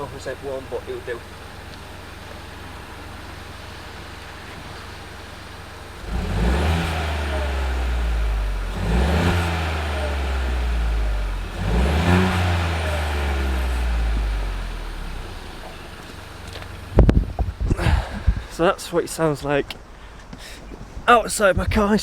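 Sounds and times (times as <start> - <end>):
car engine idling and revving: 0.0 - 17.7.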